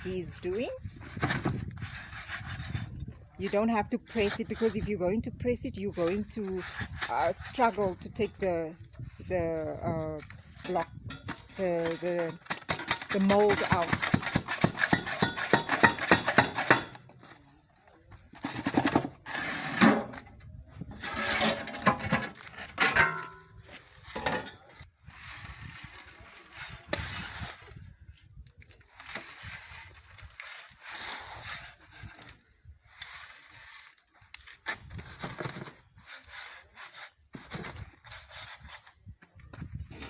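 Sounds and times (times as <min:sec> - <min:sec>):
shovel scraping cement mix: 0:00.0 - 0:40.0.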